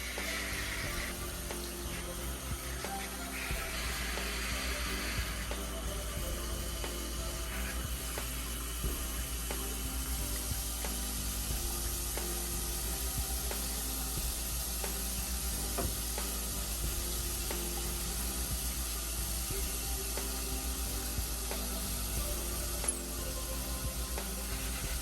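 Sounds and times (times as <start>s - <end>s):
music with ticking beat: 0.0s - 25.0s
rushing hiss: 0.0s - 25.0s.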